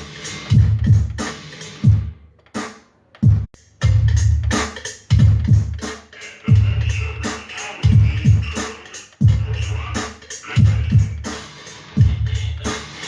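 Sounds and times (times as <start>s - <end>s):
electronic dance beat: 0.0s - 2.1s, 3.2s - 13.0s.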